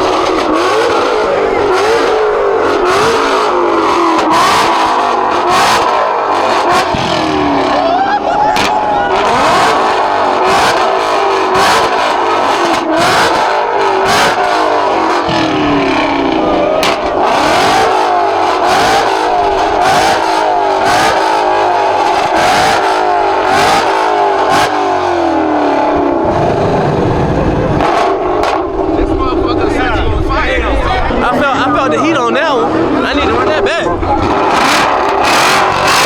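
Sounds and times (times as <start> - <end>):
car engine revving: 0.0 - 36.0
sharp exhaust cracks: 0.0 - 36.0.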